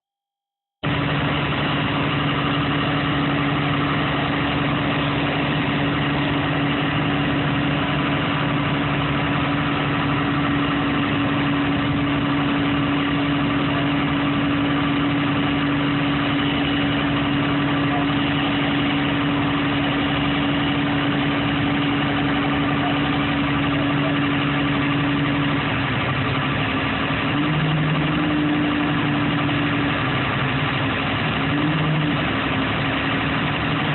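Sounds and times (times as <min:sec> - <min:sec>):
engine idling: 0:00.8 - 0:33.9.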